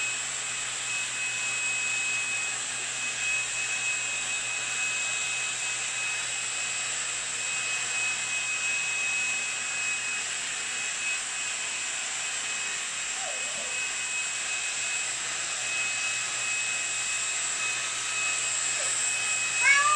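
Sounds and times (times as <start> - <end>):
stick vacuum running: 0.0 - 19.9.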